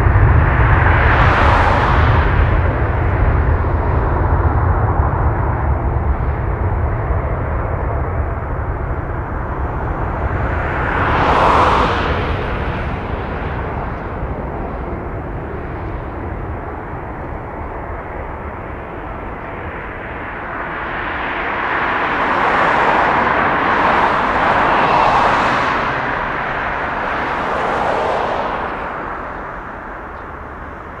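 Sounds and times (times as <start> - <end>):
jet engines at takeoff: 0.0 - 31.0.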